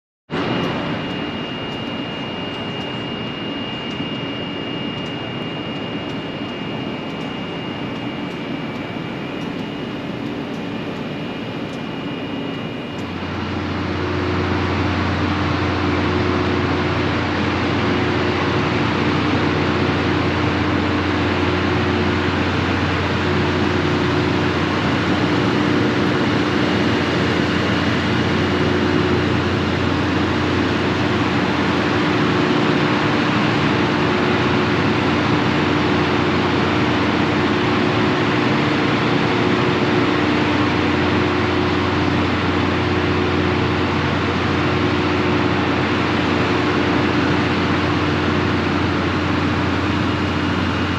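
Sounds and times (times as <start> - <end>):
deep steady hum: 0.3 - 50.9
diesel engines droning: 0.4 - 50.9.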